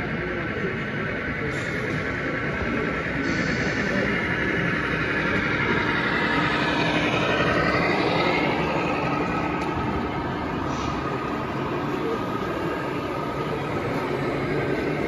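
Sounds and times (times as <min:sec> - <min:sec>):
constant rumble: 0:00.0 - 0:15.0.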